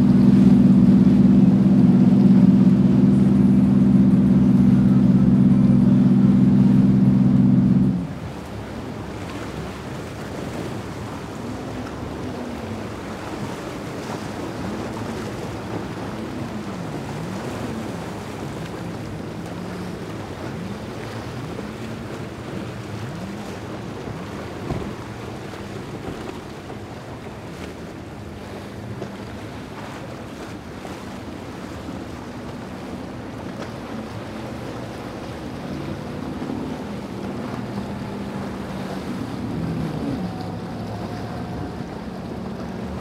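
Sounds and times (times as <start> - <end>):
outboard motor running at speed: 0.0 - 43.0
waves rushing: 0.0 - 43.0.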